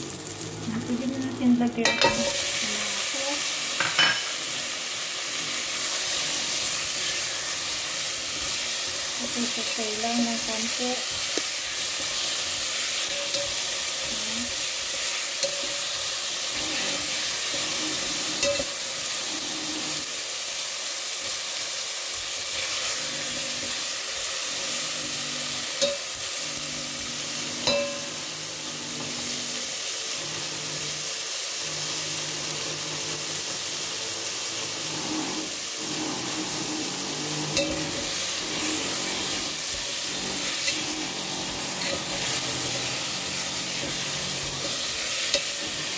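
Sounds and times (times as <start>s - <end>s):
vegetables sizzling in hot oil: 0.0s - 45.9s.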